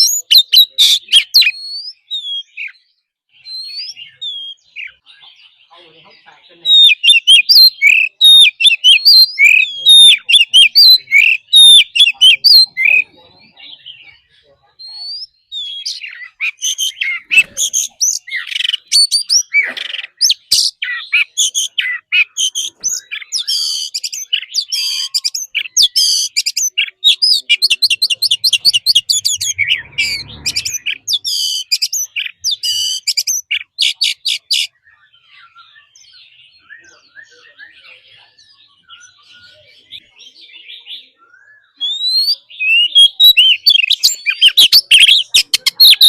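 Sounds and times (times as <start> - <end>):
bird singing whistles and trills: 0.0 - 5.7, 6.7 - 46.0
faint bird chirps: 0.0 - 46.0.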